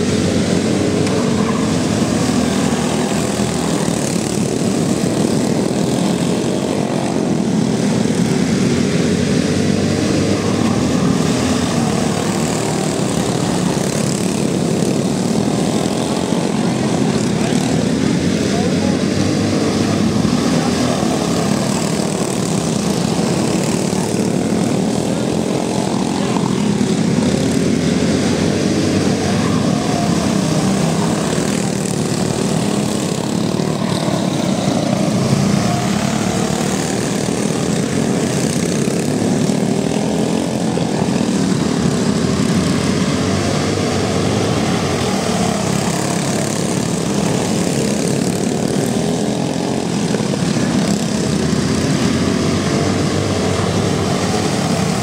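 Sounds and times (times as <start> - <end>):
go-kart engines buzzing: 0.0 - 55.0.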